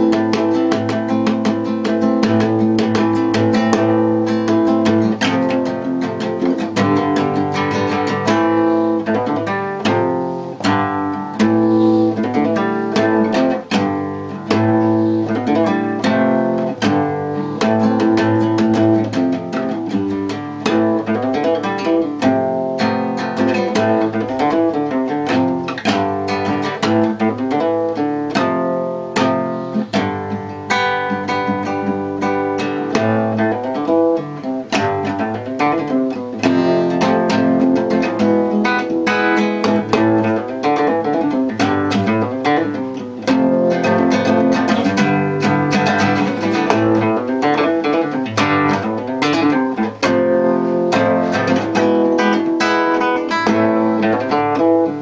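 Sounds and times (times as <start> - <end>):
classical guitar playing: 0.0 - 55.0.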